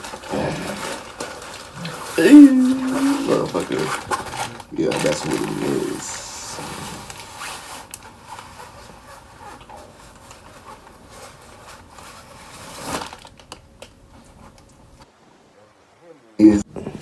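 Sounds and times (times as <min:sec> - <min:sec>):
parts rustling and scraping: 0:00.0 - 0:13.6.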